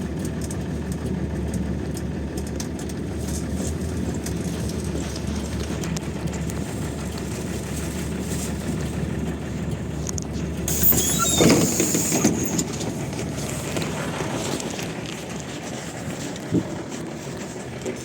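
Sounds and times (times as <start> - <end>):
bus engine running: 0.0 - 18.0.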